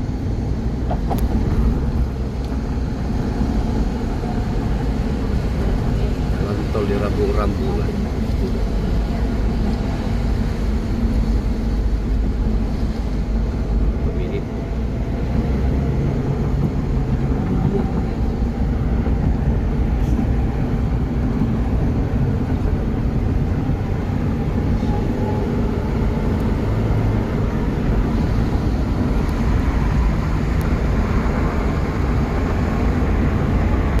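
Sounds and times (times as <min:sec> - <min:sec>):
car engine noise: 0:00.0 - 0:34.0.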